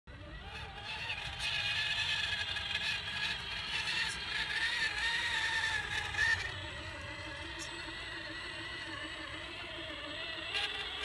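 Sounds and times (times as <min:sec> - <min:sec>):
electric motor whining: 0:00.1 - 0:11.0.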